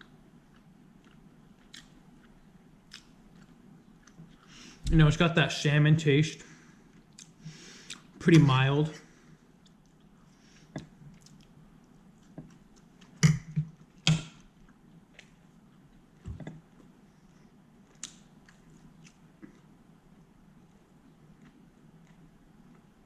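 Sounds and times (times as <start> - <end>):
person chewing food: 0.0 - 4.8, 6.7 - 8.2, 9.3 - 23.0.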